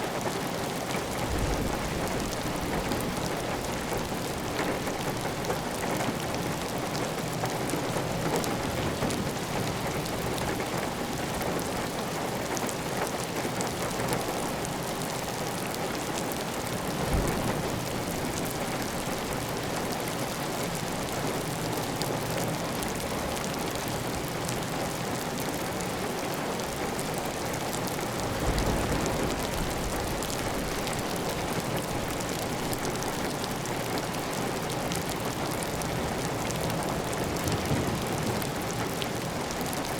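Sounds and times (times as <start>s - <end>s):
heavy rain on a tile roof: 0.0s - 39.9s.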